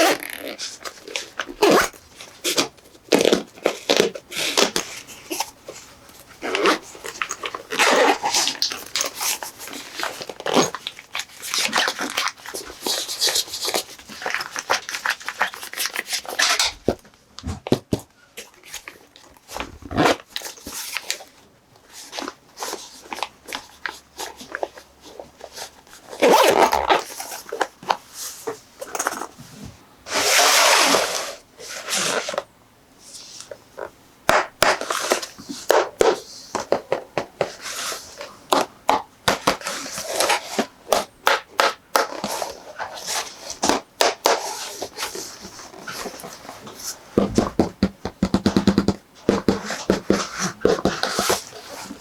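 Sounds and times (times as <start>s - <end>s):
packaging rustling and crinkling: 0.0s - 17.0s, 18.4s - 32.5s, 34.6s - 52.0s.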